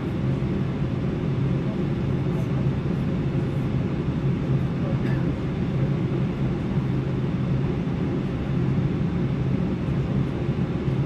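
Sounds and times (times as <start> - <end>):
aircraft cabin air rush: 0.0 - 11.0
constant low hum: 0.0 - 11.0.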